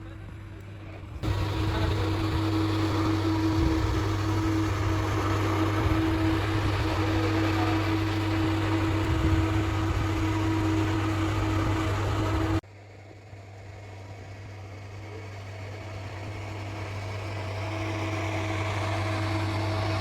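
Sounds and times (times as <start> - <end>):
industrial machinery running: 0.0 - 12.6, 13.3 - 20.0.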